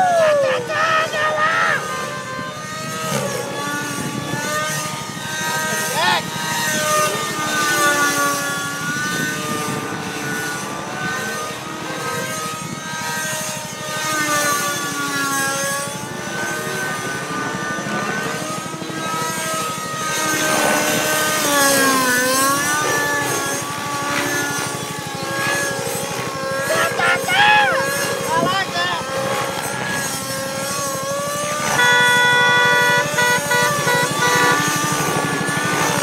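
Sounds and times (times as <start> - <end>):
model helicopter engine whine: 0.0 - 36.0.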